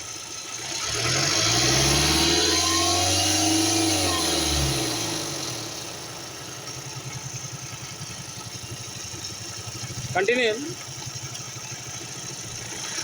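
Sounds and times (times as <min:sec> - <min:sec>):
car engine idling: 0:00.0 - 0:01.3, 0:03.8 - 0:13.0.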